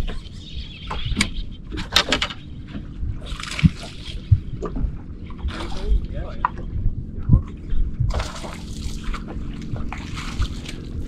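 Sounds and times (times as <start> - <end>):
low rumble: 0.0 - 11.0
water splashing against boat hull: 0.9 - 6.7, 7.3 - 11.0.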